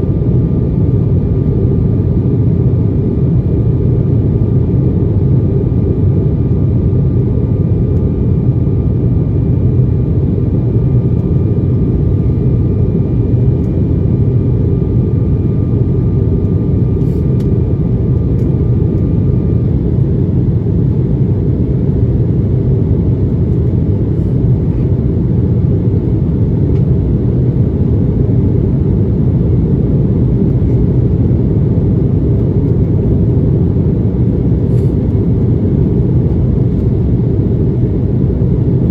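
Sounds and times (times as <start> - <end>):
aircraft cabin roar: 0.0 - 38.9.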